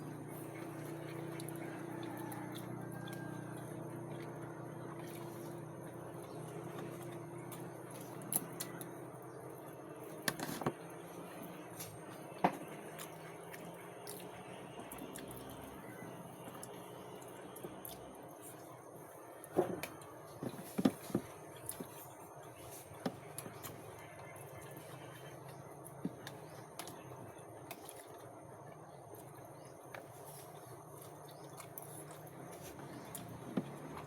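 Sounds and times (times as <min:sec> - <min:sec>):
low background hum: 0:00.0 - 0:34.0
soft chewing: 0:00.0 - 0:34.0.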